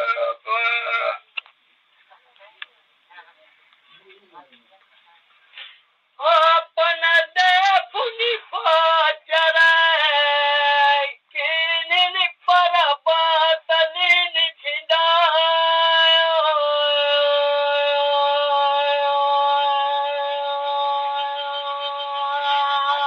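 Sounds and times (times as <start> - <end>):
high voice singing folk song: 0.0 - 1.5, 5.5 - 23.0.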